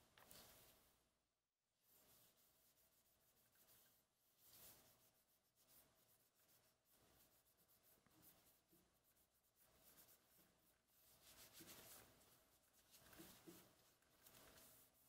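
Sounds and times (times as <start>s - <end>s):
cloth rubbing on knife handle: 1.8s - 15.0s.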